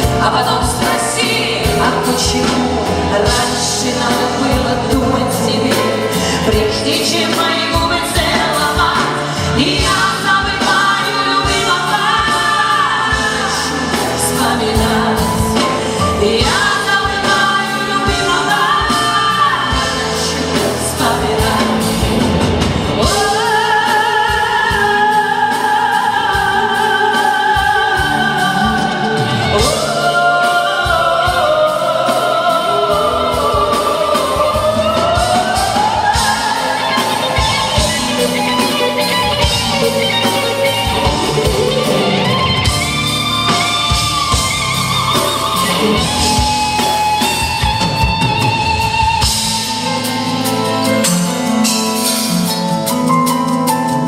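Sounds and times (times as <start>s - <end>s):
live band music with a beat: 0.0s - 54.0s
sliding lead melody: 0.0s - 54.0s.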